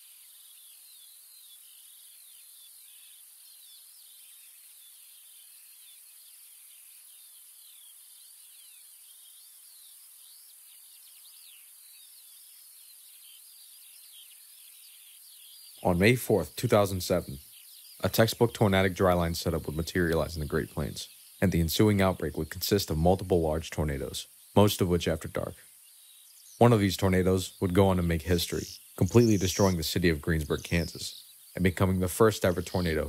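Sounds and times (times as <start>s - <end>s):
small birds chirping: 0.0s - 33.0s
steady hiss: 0.0s - 33.0s.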